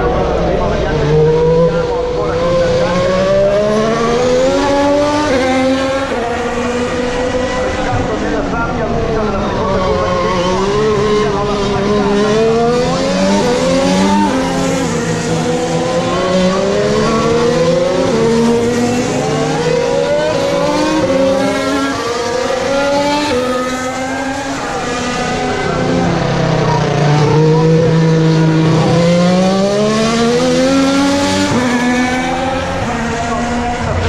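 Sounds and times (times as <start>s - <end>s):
racing car engines shifting gears: 0.0s - 34.0s.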